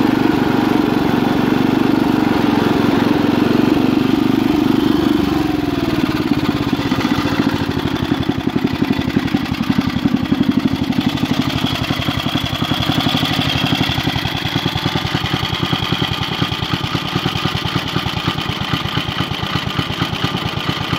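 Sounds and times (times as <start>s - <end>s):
small engine idling: 0.0s - 20.9s.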